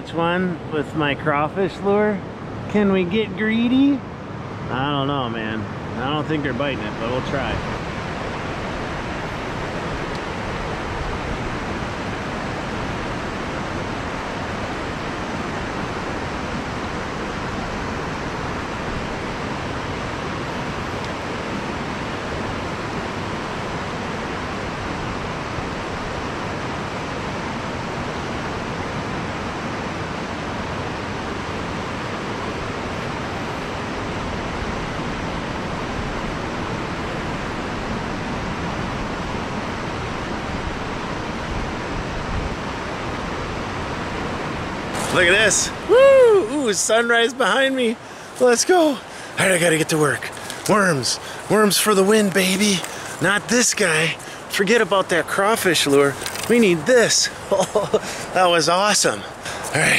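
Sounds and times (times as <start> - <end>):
river water rushing: 2.2 - 59.9.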